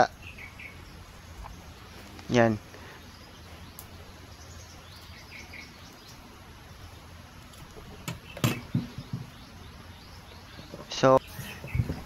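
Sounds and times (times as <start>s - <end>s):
faint bird chirps: 0.0s - 7.2s, 7.8s - 12.0s
steady background noise: 0.0s - 12.0s.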